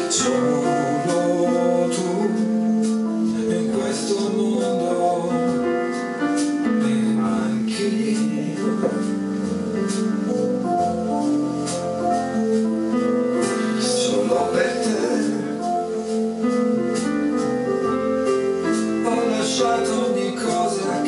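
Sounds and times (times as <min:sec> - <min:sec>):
electronic keyboard piano chords: 0:00.0 - 0:21.0.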